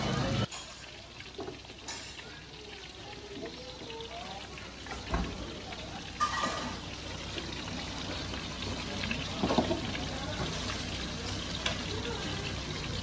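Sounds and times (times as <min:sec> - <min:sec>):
crepes sizzling in oil: 0:00.0 - 0:13.0.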